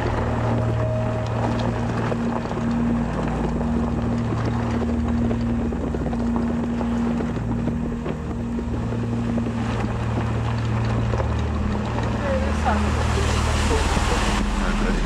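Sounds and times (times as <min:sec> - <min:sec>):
car engine drone: 0:00.0 - 0:15.0
road noise: 0:00.0 - 0:15.0
wind noise: 0:00.0 - 0:15.0.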